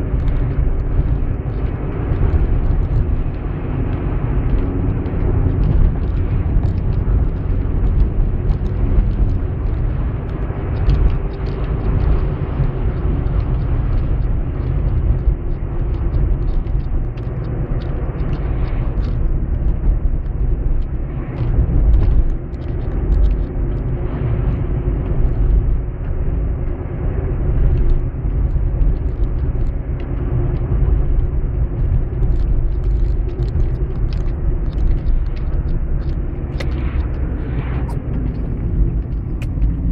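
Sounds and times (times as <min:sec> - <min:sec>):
engine and tyre rumble: 0:00.0 - 0:39.9
faint engine hum: 0:00.0 - 0:39.9.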